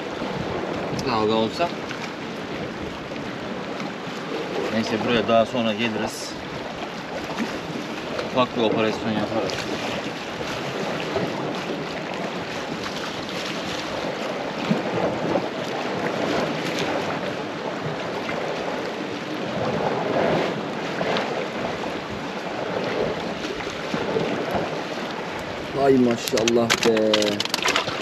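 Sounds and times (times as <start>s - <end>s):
sea washing against rocks: 0.0s - 28.0s.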